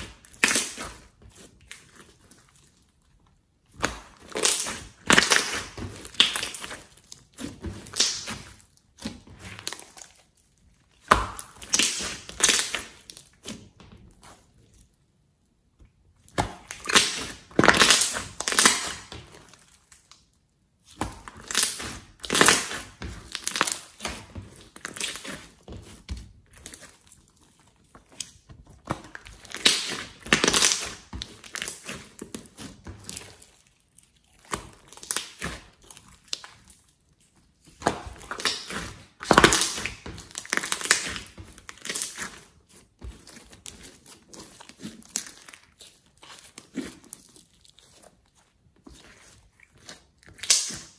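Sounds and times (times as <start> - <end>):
wet slime squishing: 0.0 - 50.9
pops and crackles of slime: 3.7 - 14.4, 16.3 - 50.9.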